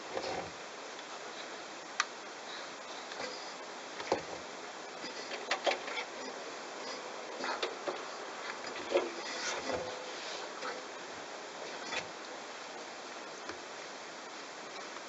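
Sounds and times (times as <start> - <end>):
washing machine drum and water hiss: 0.0 - 15.0.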